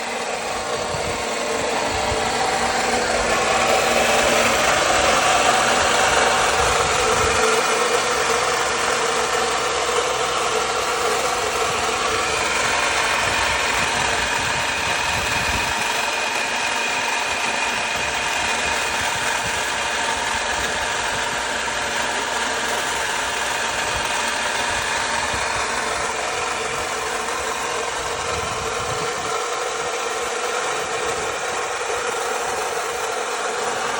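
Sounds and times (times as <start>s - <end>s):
car engine running loudly: 0.0s - 33.9s.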